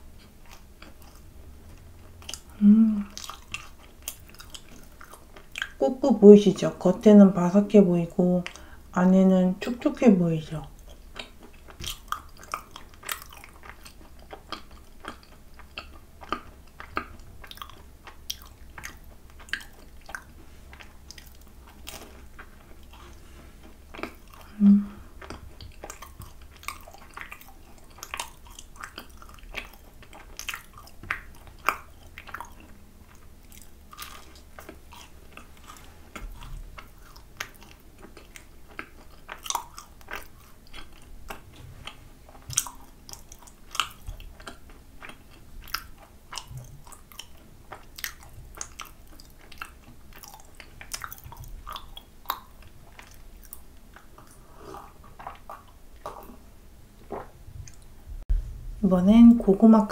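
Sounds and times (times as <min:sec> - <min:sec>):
person chewing crunchy food: 0:00.0 - 0:05.8, 0:10.6 - 0:58.0.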